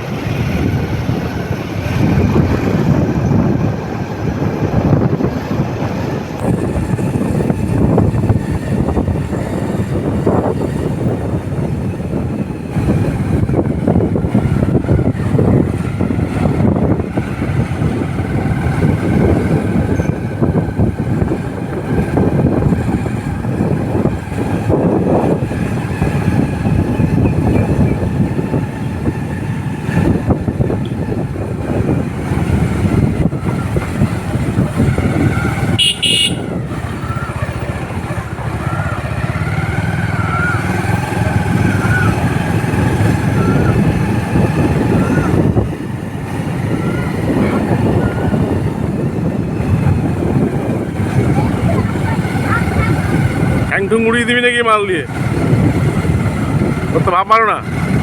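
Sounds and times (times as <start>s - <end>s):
motorcycle engine: 0.0s - 54.0s, 55.0s - 58.0s
wind on microphone: 0.0s - 58.0s.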